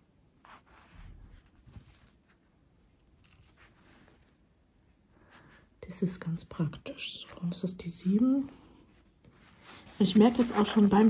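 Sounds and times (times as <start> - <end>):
needle and thread rustling: 0.3 - 5.8, 7.0 - 11.0.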